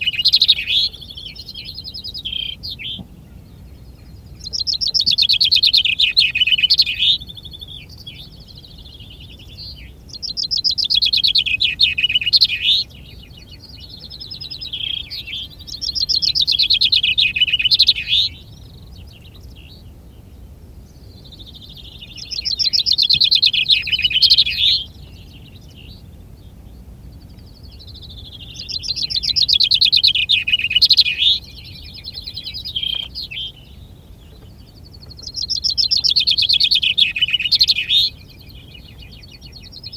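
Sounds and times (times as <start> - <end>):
chaffinch singing: 0.0 - 39.9.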